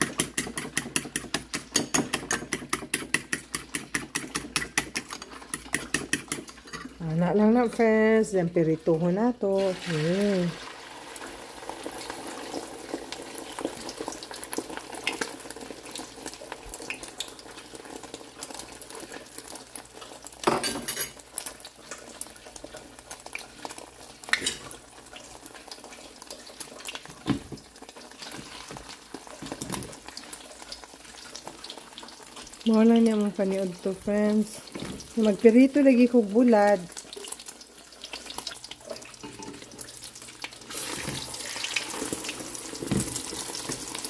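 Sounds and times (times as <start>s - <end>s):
eggs sizzling in hot oil: 0.0s - 44.0s.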